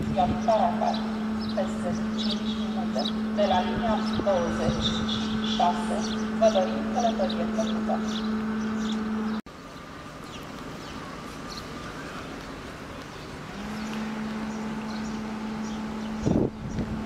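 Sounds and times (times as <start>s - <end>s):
birds chirping: 0.0s - 17.0s
electric locomotive humming: 0.0s - 17.0s.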